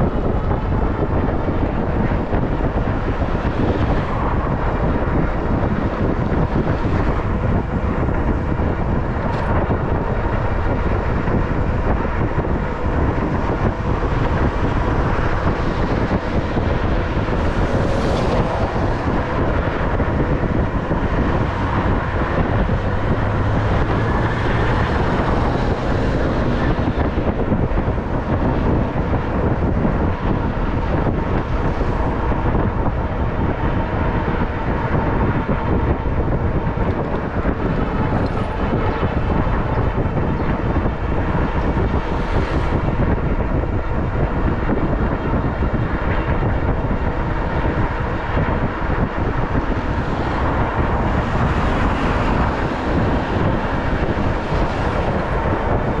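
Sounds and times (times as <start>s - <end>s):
bicycle road noise: 0.0s - 56.0s
wind rush on microphone: 0.0s - 56.0s.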